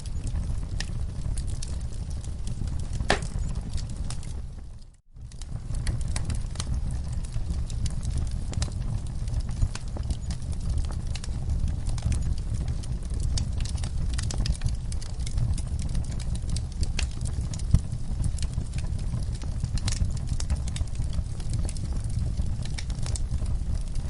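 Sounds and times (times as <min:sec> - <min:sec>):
fire popping: 0:00.0 - 0:24.0
wood fire crackling: 0:00.0 - 0:24.0.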